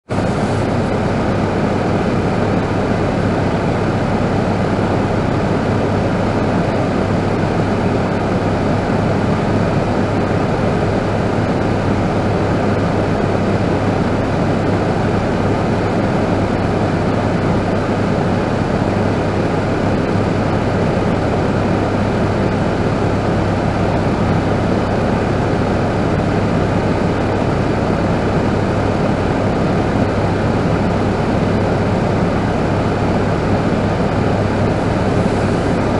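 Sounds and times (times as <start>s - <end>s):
fan heater blowing air: 0.0s - 35.9s.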